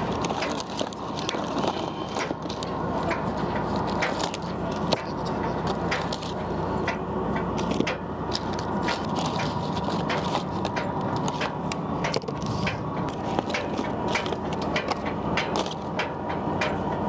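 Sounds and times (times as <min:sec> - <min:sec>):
boat engine running: 0:00.0 - 0:17.0
sharp clicks and knocks: 0:00.0 - 0:17.0.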